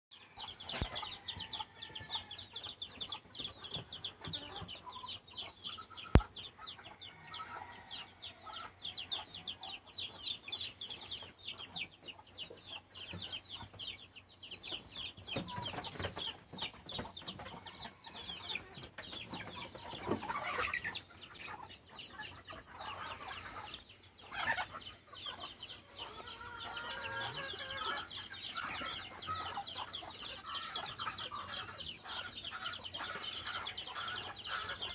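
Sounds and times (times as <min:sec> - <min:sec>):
chickens clucking and calling: 0:00.1 - 0:34.9.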